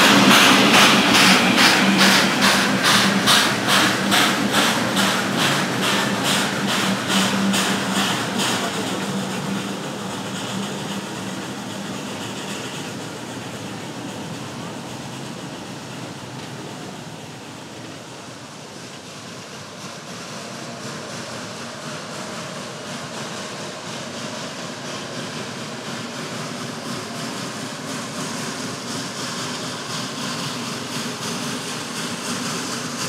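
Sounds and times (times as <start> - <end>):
steam train exhaust chuff: 0.0 - 33.0
train rolling noise: 0.0 - 33.0.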